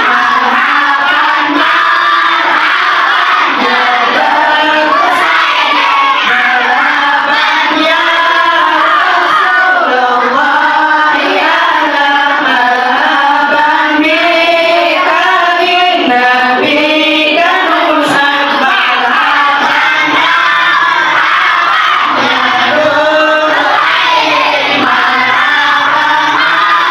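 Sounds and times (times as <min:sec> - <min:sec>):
children singing in unison: 0:00.0 - 0:26.9.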